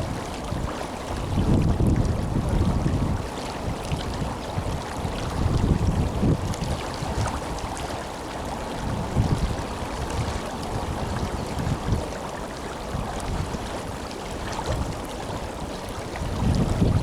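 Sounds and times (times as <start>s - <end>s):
river water rushing: 0.0s - 17.0s
wind buffeting microphone: 0.0s - 17.0s.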